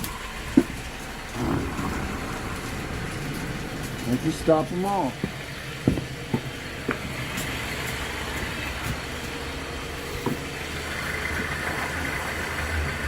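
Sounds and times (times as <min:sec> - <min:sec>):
car driveline running: 0:00.0 - 0:13.0.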